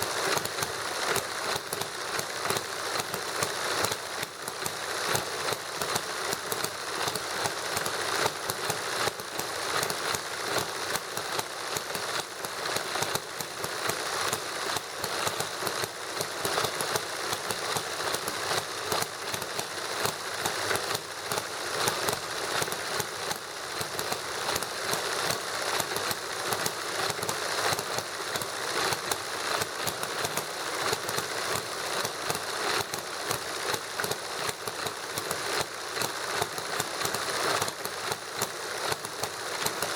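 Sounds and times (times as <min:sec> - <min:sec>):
model engines clattering: 0:00.0 - 0:39.9.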